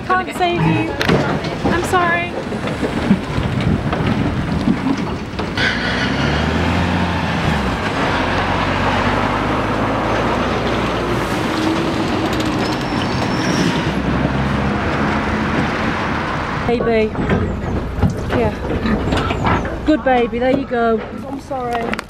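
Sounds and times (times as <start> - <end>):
lorry diesel engine: 0.0 - 22.0
road and trailer noise: 0.0 - 22.0.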